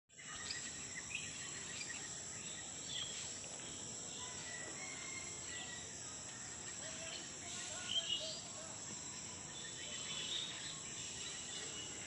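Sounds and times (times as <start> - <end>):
birds chirping: 0.1 - 12.0
high-pitched insect drone: 0.1 - 12.0
background hiss: 0.2 - 12.0.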